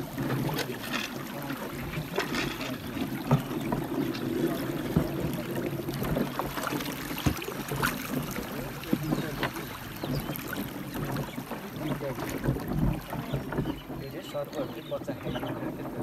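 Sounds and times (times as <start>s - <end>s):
water rippling against canoe: 0.0s - 16.0s.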